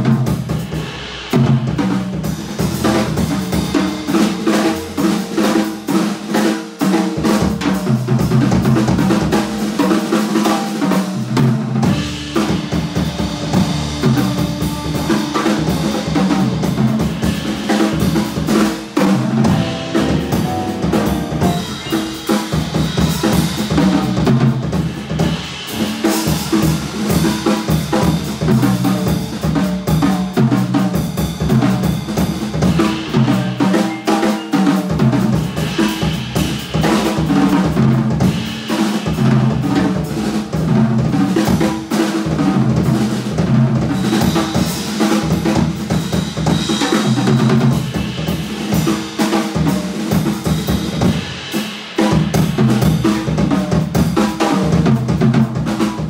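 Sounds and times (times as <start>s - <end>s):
jazz drum kit solo: 0.0s - 56.0s.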